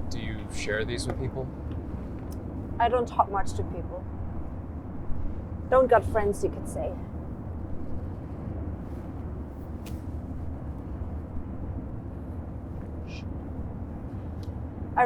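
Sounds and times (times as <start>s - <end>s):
low rumble and hiss: 0.0s - 15.0s.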